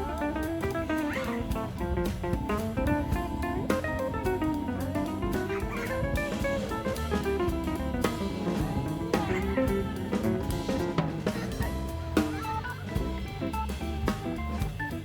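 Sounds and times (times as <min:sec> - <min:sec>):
upbeat instrumental music: 0:00.0 - 0:15.0.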